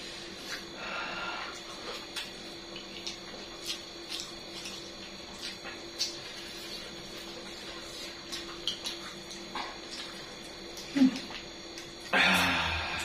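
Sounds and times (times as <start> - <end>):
faint hum: 0.0 - 13.0
chewing and mouth sounds: 1.4 - 12.5.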